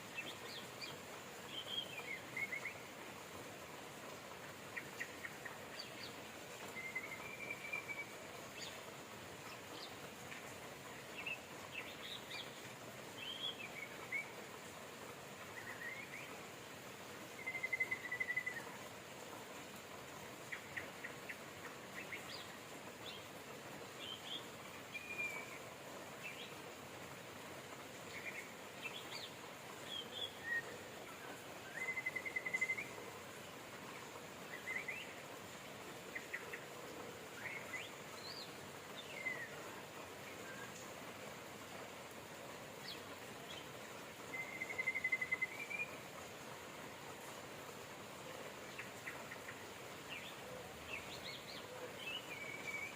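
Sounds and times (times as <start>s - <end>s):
rain hissing: 0.0s - 52.9s.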